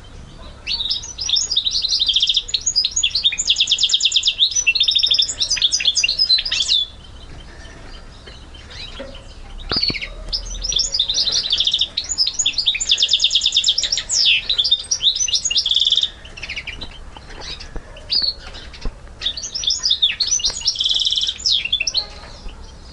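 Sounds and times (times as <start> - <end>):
finch singing trills: 0.0 - 22.9.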